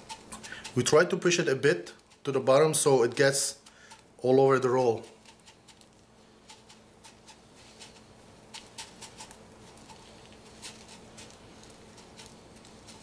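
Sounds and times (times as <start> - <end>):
bird seed pattering and crackling: 0.0 - 13.0.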